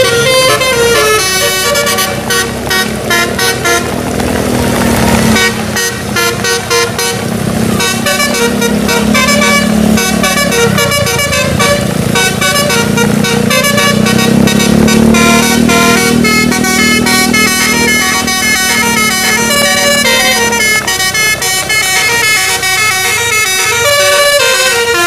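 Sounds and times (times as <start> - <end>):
musical air horn melody: 0.0 - 4.0, 5.2 - 25.0
low engine drone: 0.0 - 25.0.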